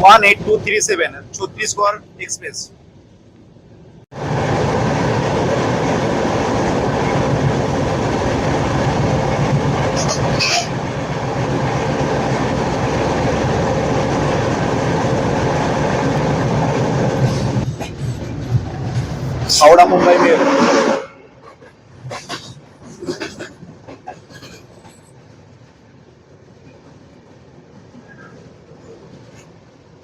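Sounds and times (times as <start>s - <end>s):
train rumbling and clattering on rails: 0.0s - 30.0s.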